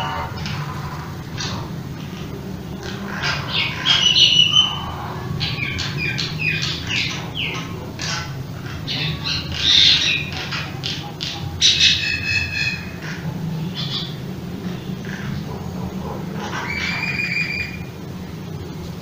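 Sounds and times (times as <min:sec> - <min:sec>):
birds chirping and squawking: 0:00.0 - 0:19.0.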